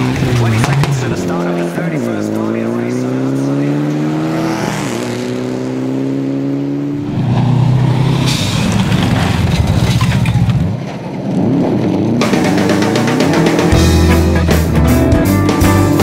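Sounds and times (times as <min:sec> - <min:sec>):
rough car engine sliding through bend: 0:00.0 - 0:14.5
rally car engine at full throttle: 0:00.0 - 0:16.0.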